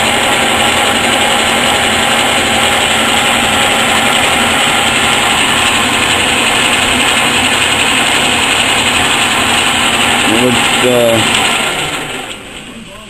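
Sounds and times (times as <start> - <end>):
metal lathe motor whirring: 0.0 - 12.7.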